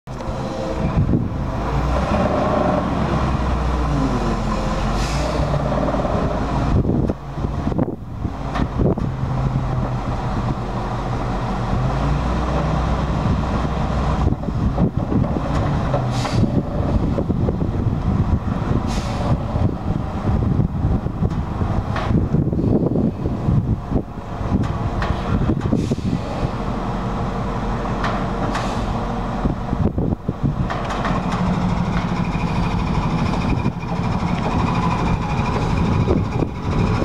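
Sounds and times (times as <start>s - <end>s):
truck engine running: 0.1s - 37.0s.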